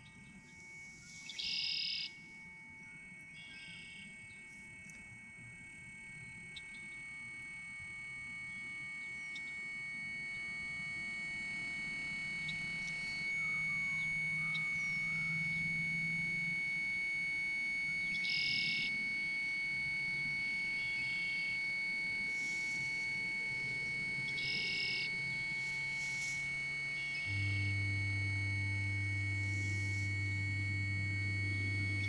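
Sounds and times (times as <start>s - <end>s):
held electronic tones: 0.0s - 32.0s
low hum: 0.0s - 32.0s
piercing high electronic drone: 0.0s - 32.0s.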